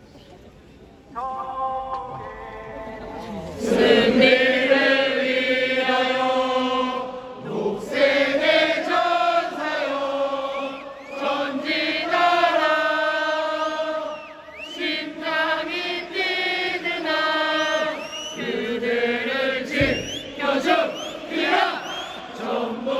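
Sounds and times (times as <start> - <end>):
voices chanting held notes: 1.2 - 22.9.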